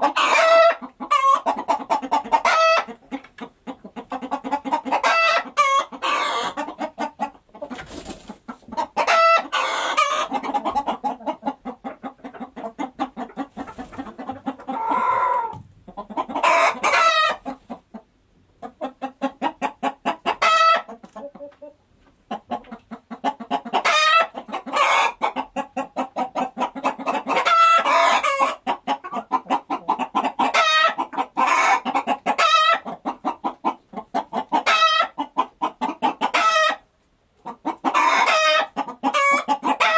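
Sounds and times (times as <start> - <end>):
chickens clucking and squawking: 0.0 - 39.9.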